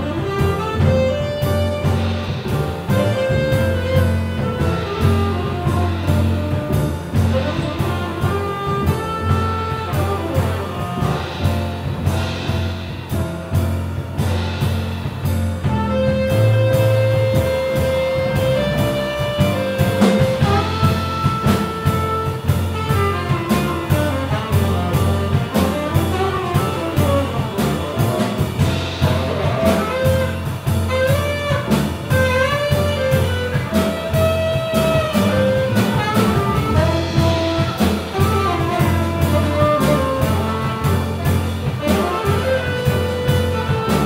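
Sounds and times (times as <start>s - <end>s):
tenor saxophone melody: 0.0s - 12.5s, 15.6s - 44.0s
double bass: 0.0s - 44.0s
drums with cymbal strokes: 0.0s - 44.0s
piano: 0.0s - 44.0s.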